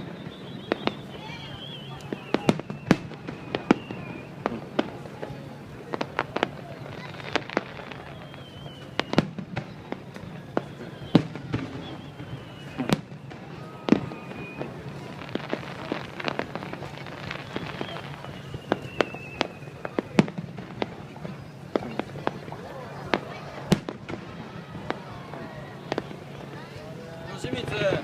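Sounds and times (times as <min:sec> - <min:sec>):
firework falling whistles: 0:00.0 - 0:05.4, 0:06.0 - 0:26.8
firework bangs: 0:00.0 - 0:28.0
fireworks crackling and popping: 0:00.0 - 0:28.0.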